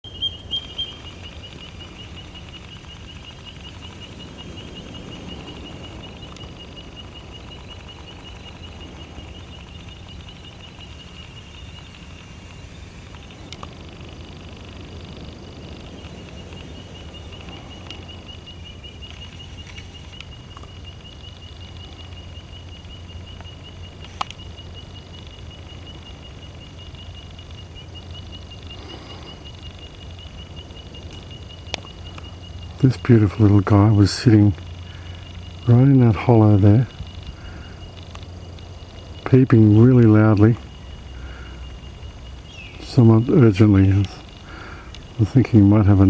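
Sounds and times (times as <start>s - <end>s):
bird high piping peeps: 0.0s - 46.0s.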